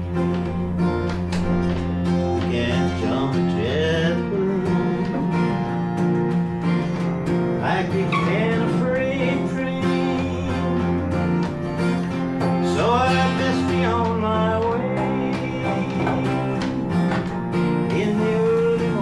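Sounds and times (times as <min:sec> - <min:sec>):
acoustic guitar country-folk music: 0:00.0 - 0:19.0.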